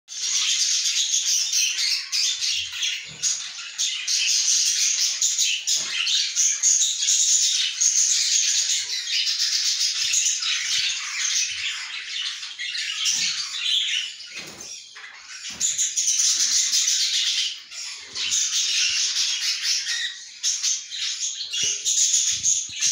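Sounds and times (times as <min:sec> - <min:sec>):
budgerigars chattering and chirping: 0:00.1 - 0:22.9.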